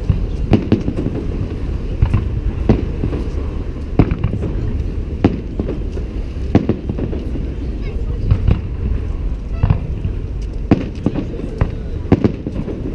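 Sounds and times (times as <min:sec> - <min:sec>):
firework bangs: 0:00.0 - 0:12.9.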